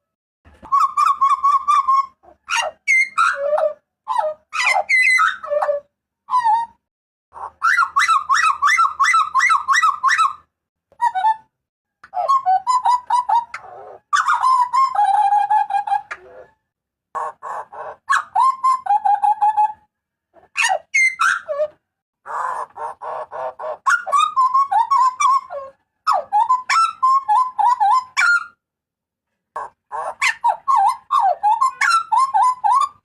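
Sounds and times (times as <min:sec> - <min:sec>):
butcherbird calling: 0:00.5 - 0:06.8, 0:07.4 - 0:16.6, 0:17.2 - 0:19.8, 0:20.4 - 0:28.6, 0:29.6 - 0:33.0.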